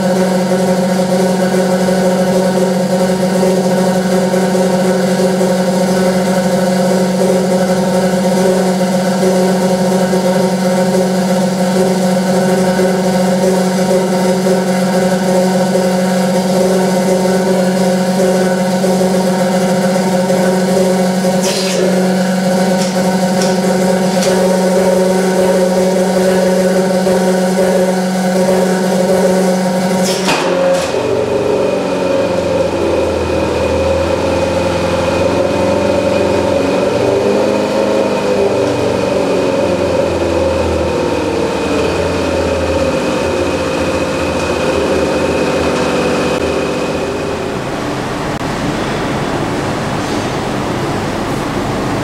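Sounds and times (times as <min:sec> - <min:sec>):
vacuum pump humming: 0:00.0 - 0:52.0.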